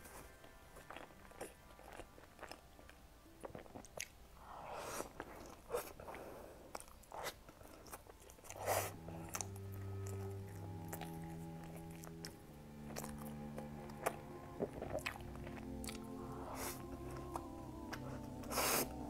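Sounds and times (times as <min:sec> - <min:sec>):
person chewing pastry: 0:00.0 - 0:19.0.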